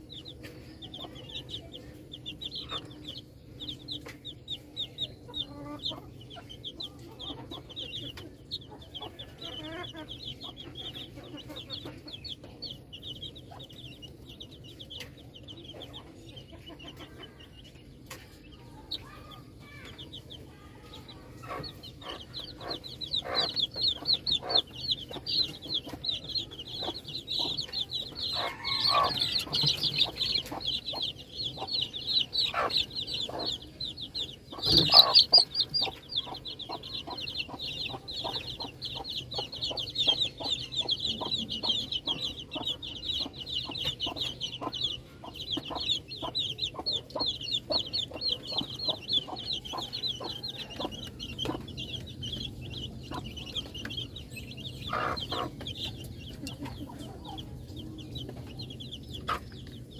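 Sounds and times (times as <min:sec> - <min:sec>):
baby chicks peeping: 0:00.0 - 0:59.9.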